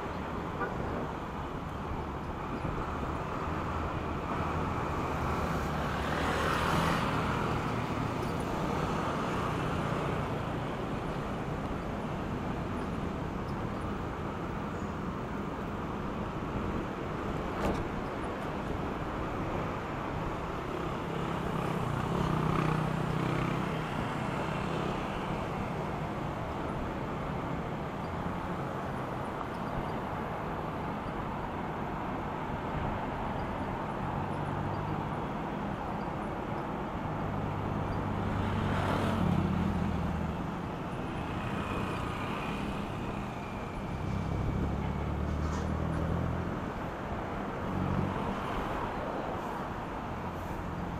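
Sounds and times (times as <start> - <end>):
cars and motorcycles passing: 0.0 - 50.9
road noise: 0.0 - 50.9.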